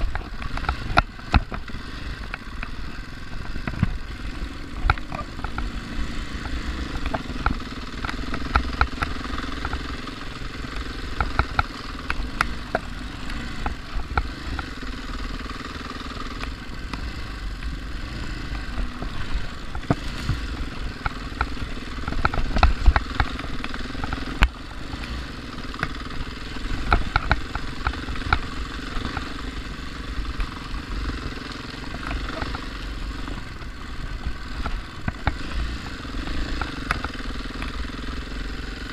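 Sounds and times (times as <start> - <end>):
clicks and rattles from bike: 0.0 - 38.9
dirt bike engine running: 0.0 - 38.9.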